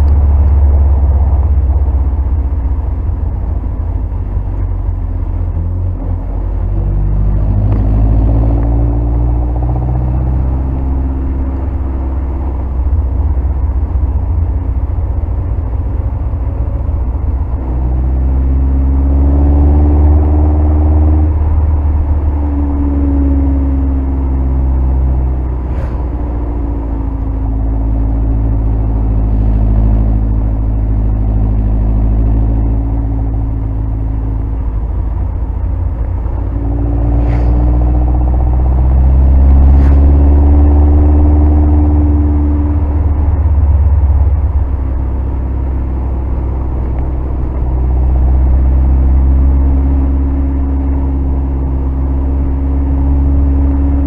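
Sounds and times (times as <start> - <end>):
car engine accelerating: 0.0 - 54.0
wind and road noise rumble: 0.0 - 54.0.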